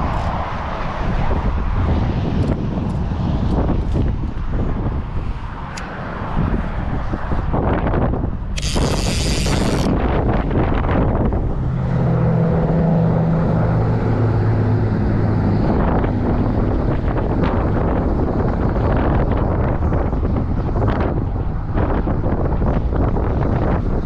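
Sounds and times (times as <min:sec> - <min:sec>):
low engine hum: 0:00.0 - 0:24.0
wind buffeting microphone: 0:00.0 - 0:24.0.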